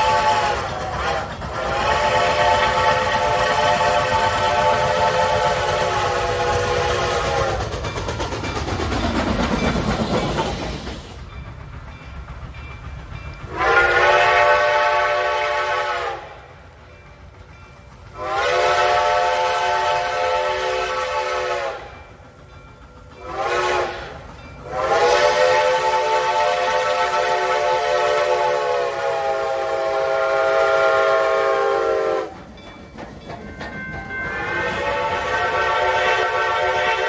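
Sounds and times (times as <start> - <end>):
steam locomotive chime whistle: 0.0 - 37.0.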